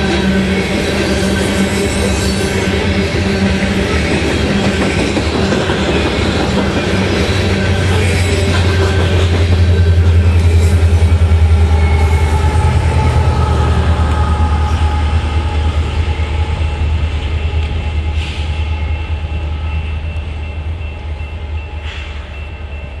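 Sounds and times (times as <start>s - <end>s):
locomotive engine humming: 0.0s - 23.0s
wheels rumbling on rail: 0.0s - 23.0s.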